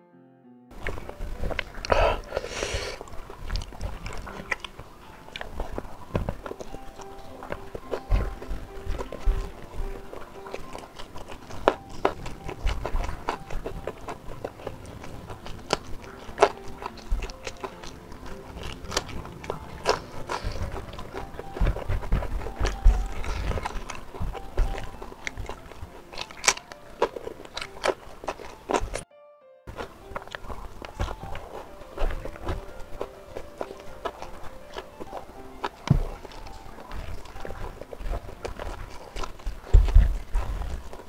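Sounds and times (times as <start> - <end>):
close chewing: 0.7 - 29.0, 29.7 - 41.0.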